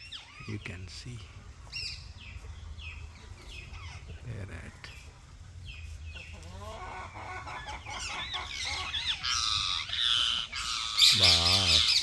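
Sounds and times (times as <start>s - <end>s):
birds calling harshly: 0.0s - 12.0s.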